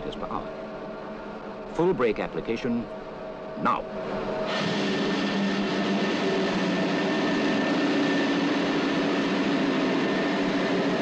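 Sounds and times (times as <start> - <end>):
low drone: 0.0 - 11.0.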